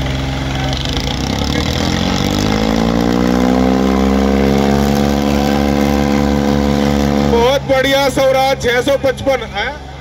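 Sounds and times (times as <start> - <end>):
tractor diesel engine revving: 0.0 - 9.0.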